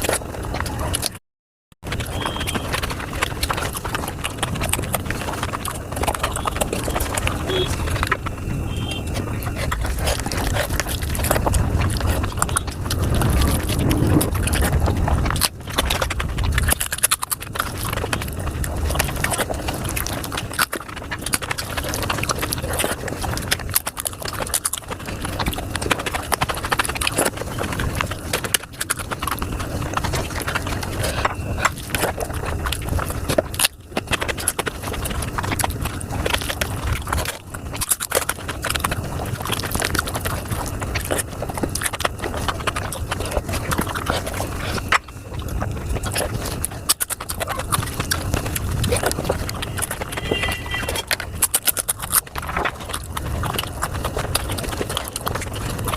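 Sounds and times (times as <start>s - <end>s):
sped-up chewing and smacking: 0.0s - 1.2s, 1.8s - 55.9s.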